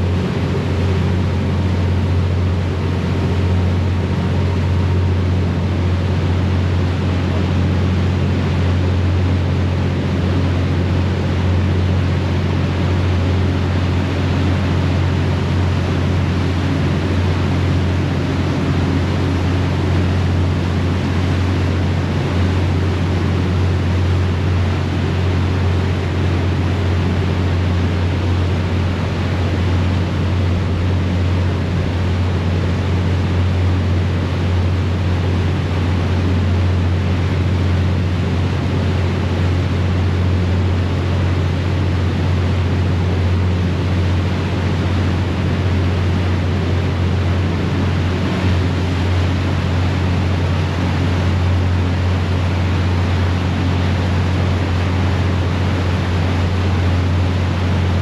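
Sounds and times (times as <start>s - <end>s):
ferry engines humming: 0.0s - 58.0s.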